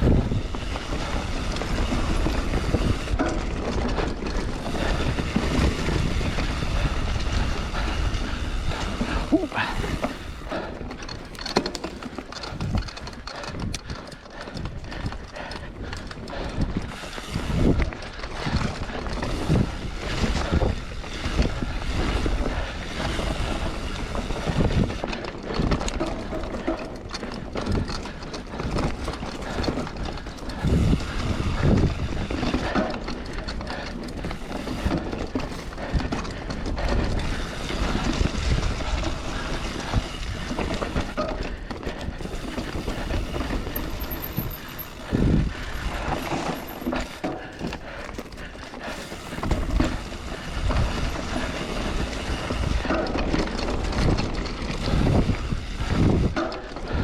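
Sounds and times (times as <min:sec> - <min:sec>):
bike rattles and knocks: 0:00.0 - 0:57.0
bike tyre rumble on dirt: 0:00.0 - 0:57.0.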